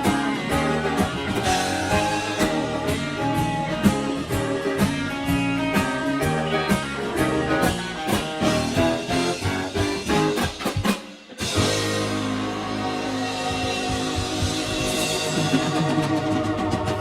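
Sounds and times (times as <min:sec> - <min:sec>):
rock music with guitar and drums: 0:00.0 - 0:17.0.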